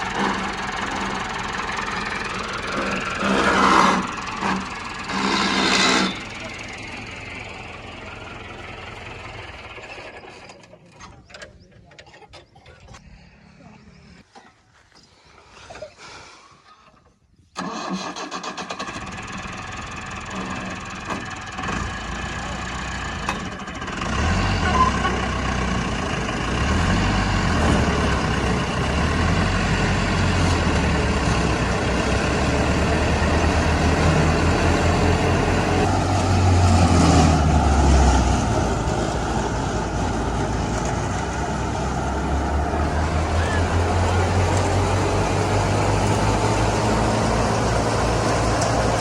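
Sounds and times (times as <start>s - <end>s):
tractor diesel engine starting: 0.0s - 13.9s, 17.5s - 49.0s.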